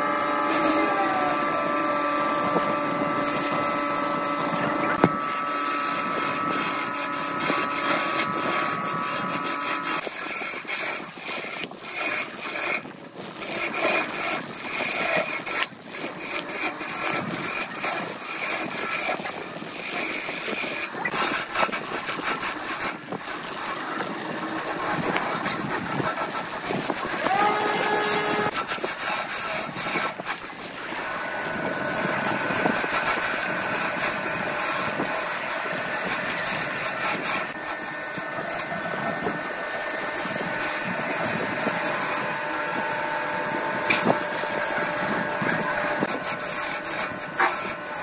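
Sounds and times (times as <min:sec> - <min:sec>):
lathe tool scraping wood: 0:00.0 - 0:48.0
steady lathe whine: 0:00.0 - 0:48.0.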